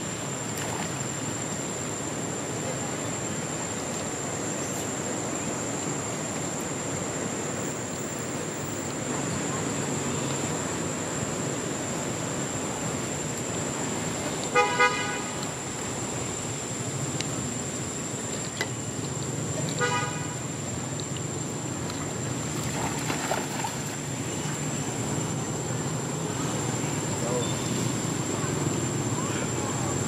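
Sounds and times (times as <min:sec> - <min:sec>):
constant high whine: 0:00.0 - 0:30.0
steady background hiss: 0:00.0 - 0:30.0.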